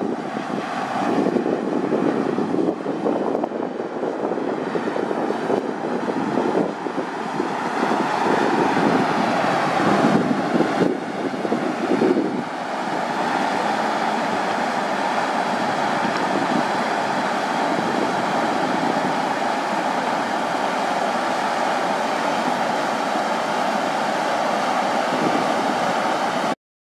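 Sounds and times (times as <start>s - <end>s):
steam hissing from vent: 0.0s - 26.6s
wind gusts on microphone: 0.0s - 26.6s.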